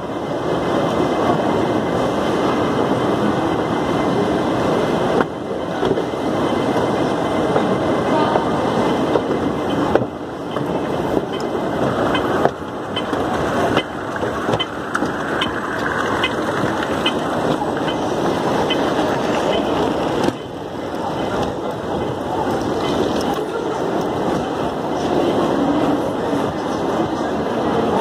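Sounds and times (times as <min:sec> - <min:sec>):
escalator running: 0:00.0 - 0:25.3
murmur of many people: 0:00.0 - 0:28.0.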